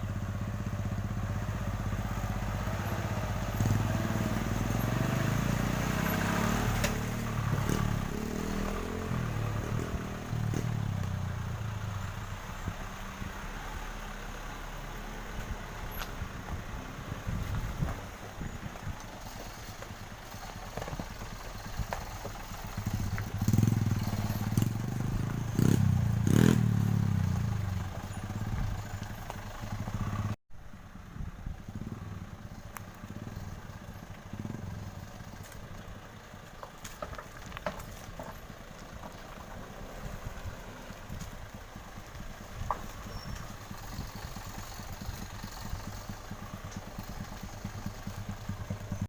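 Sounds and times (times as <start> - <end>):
quiet road traffic: 0.0 - 49.0
truck engine droning: 0.0 - 49.0.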